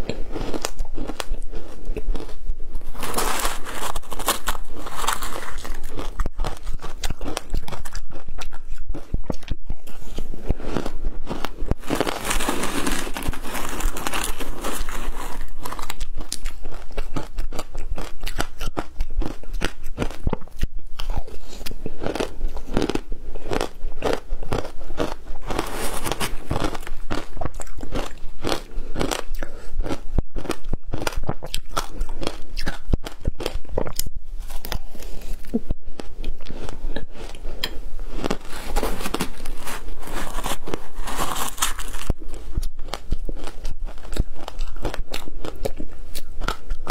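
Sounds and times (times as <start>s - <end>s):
chewing crunchy ice: 0.0s - 46.9s.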